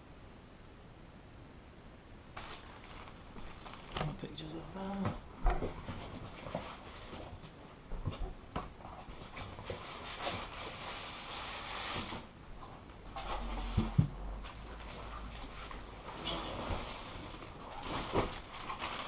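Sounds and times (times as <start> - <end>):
cardboard rustling and scraping: 2.4 - 4.2, 4.9 - 19.0.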